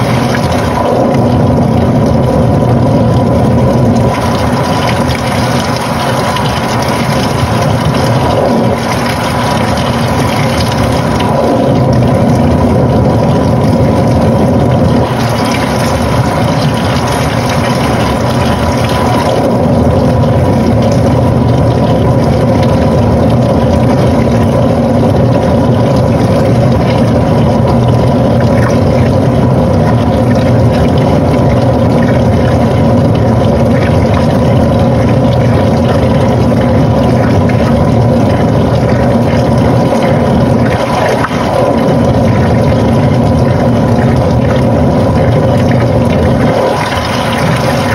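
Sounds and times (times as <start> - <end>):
washing machine running: 0.0 - 47.9.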